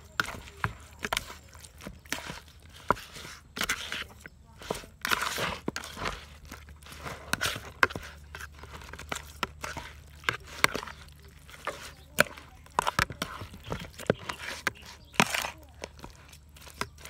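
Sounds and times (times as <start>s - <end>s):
metal spoon scraping a wok: 0.1s - 17.0s.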